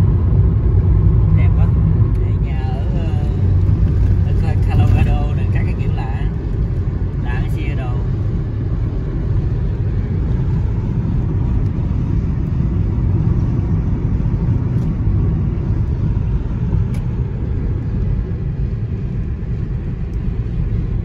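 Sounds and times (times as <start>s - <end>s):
car driving along road: 0.0s - 21.0s.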